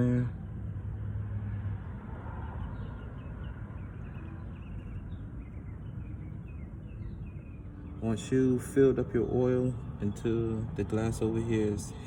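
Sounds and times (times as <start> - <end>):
birds chirping: 0.0 - 1.1, 1.7 - 12.0
low outdoor rumble: 0.0 - 12.0.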